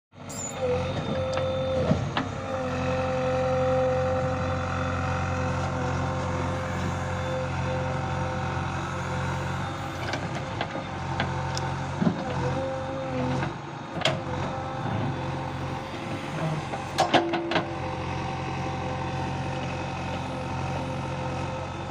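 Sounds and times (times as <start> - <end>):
held whine: 0.1 - 21.9
backhoe motor running: 0.2 - 21.9.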